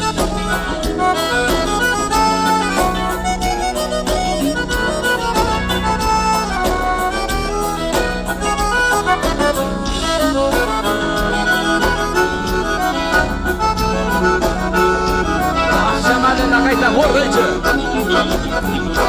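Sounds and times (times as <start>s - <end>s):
accordion melody: 0.0s - 19.0s
dance band playing: 0.0s - 19.0s.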